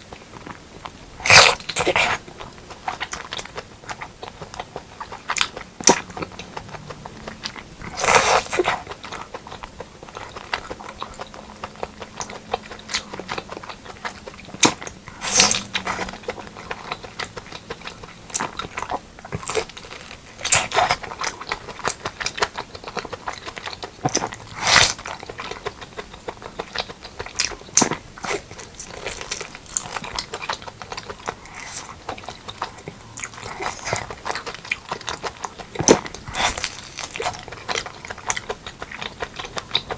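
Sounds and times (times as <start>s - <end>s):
close chewing with wet clicks: 0.0s - 39.9s.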